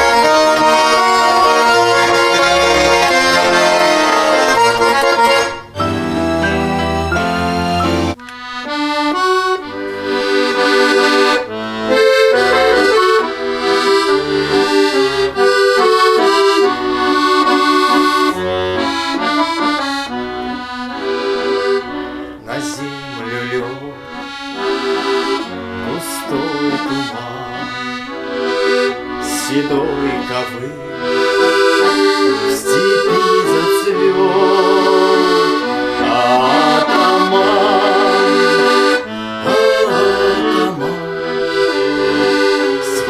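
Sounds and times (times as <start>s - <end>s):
accordion melody: 0.0s - 43.0s.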